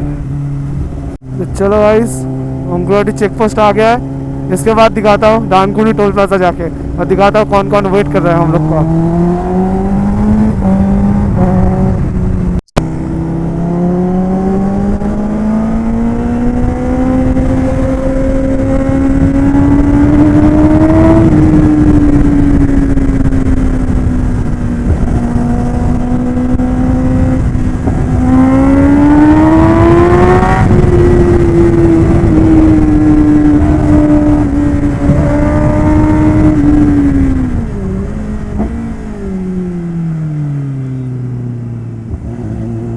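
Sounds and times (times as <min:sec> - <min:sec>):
motorcycle engine revving: 0:00.0 - 0:42.9
wind and road noise: 0:00.0 - 0:42.9.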